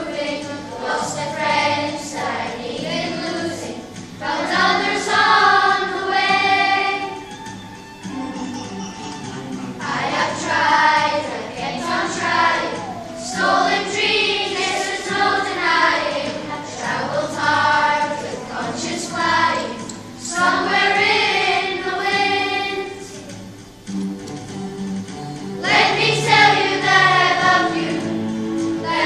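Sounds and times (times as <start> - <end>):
children's choir singing: 0.0 - 23.8, 25.2 - 29.0.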